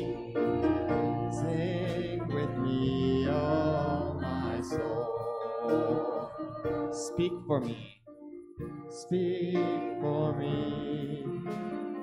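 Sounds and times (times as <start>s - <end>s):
choir and congregation singing hymn: 0.0s - 7.8s, 9.1s - 12.0s.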